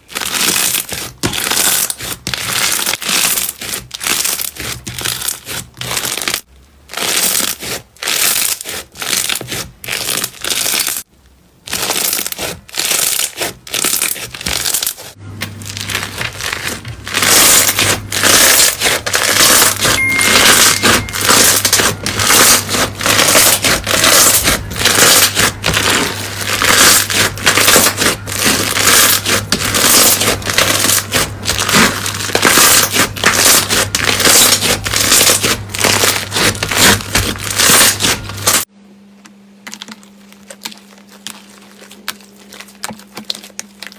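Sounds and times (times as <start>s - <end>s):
slime crackling and crunching: 0.0s - 38.7s, 39.6s - 43.9s.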